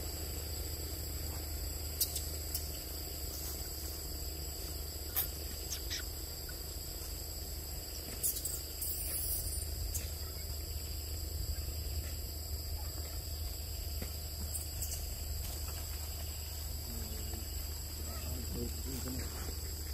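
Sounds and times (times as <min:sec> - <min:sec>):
high insect drone: 0:00.0 - 0:19.9.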